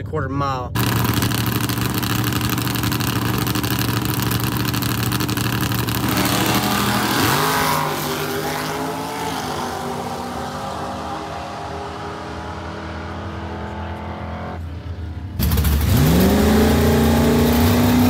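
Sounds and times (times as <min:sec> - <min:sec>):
race car engine revving: 0:00.8 - 0:14.7, 0:15.3 - 0:18.0.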